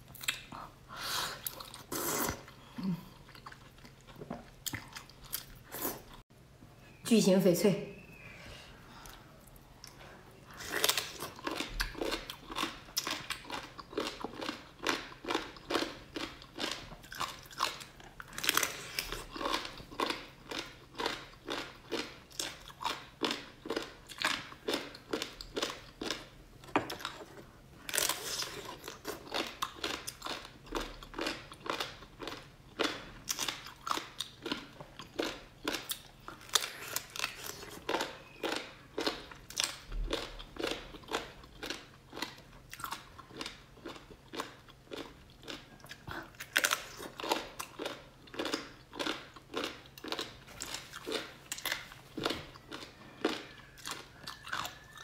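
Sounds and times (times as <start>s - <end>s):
close chewing and biting: 9.8s - 55.0s.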